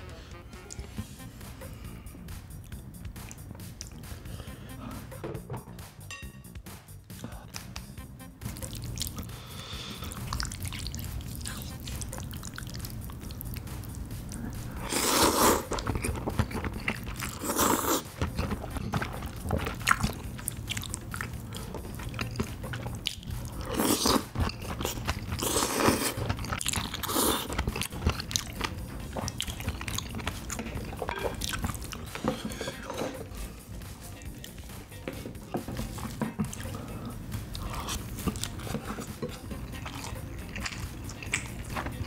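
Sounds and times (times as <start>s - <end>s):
person chewing food: 0.6s - 5.3s, 8.4s - 42.0s.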